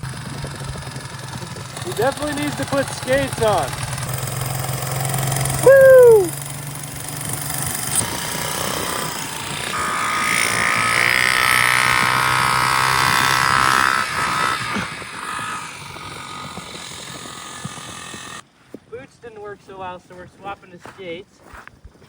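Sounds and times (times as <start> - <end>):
motorbike engine idling and revving: 0.0 - 18.5.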